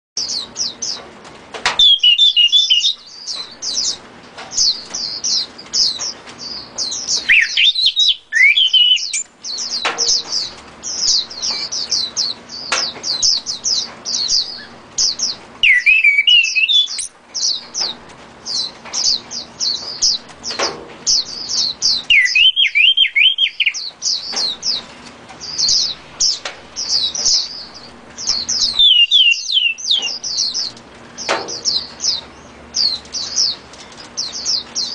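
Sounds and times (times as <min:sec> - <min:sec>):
songbird chirping: 0:01.6 - 0:34.9.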